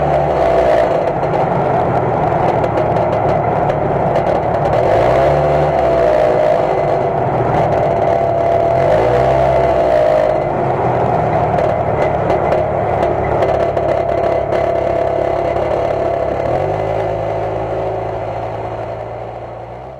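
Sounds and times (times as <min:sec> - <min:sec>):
clatter of sharp clicks: 0:00.0 - 0:09.2, 0:09.9 - 0:17.8
engine and exhaust running: 0:00.0 - 0:19.9.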